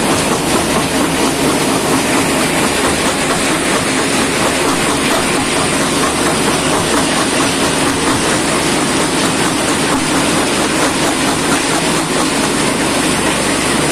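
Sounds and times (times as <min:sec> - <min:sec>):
crusher mechanical hum: 0:00.0 - 0:13.9
rattling clatter: 0:00.0 - 0:13.9.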